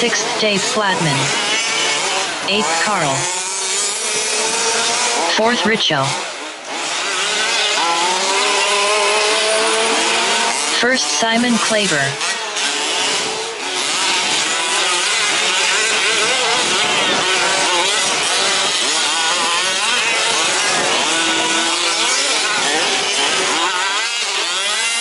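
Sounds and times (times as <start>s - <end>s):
rc truck engines revving: 0.0s - 25.0s.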